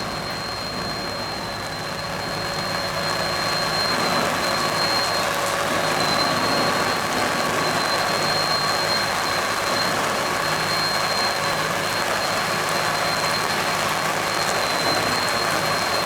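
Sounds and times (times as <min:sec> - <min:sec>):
engine drone: 0:00.0 - 0:16.0
thin high whine: 0:00.0 - 0:16.0.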